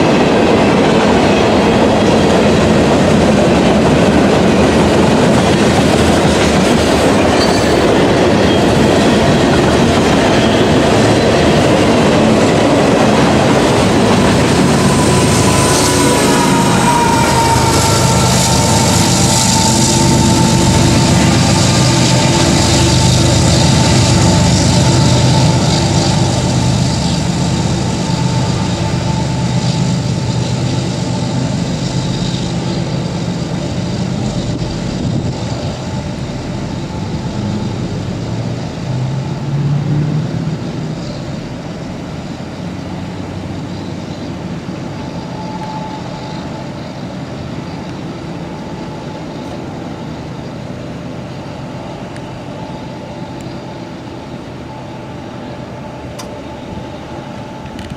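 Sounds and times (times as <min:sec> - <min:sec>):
diesel locomotive engine drone: 0:00.0 - 0:57.9
rumble of train cars: 0:00.0 - 0:57.9.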